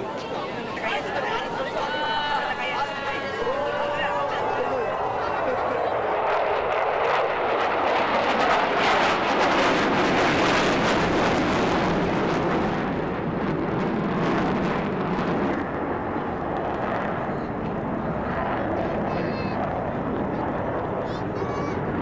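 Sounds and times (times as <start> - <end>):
fighter jet flying overhead: 0.0 - 22.0.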